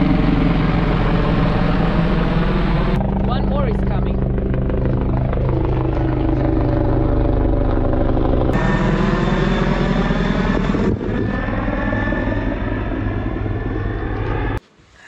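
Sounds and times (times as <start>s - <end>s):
helicopter rotor beating: 0.0s - 14.6s.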